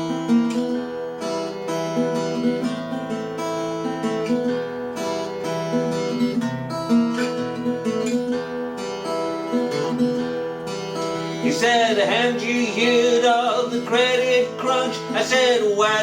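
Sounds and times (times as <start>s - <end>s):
acoustic guitar strumming blues: 0.0s - 16.0s.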